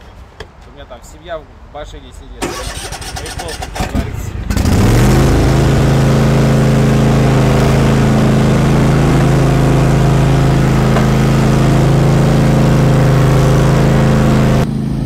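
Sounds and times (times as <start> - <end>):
garden tractor engine running: 2.4 - 15.0.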